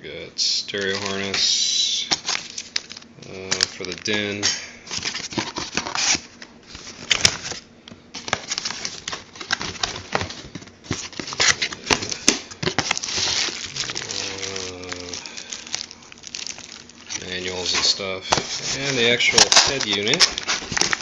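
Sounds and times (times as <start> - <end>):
plastic and paper crinkling: 0.7 - 21.0.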